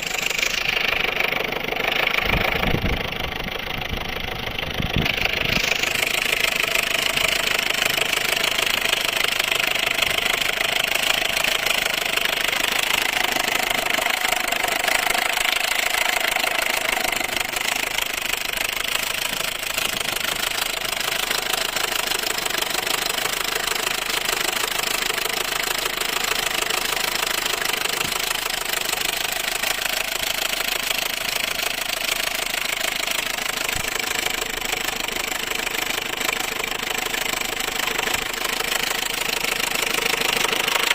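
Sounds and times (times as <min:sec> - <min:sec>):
car engine clattering: 0:00.0 - 0:40.9.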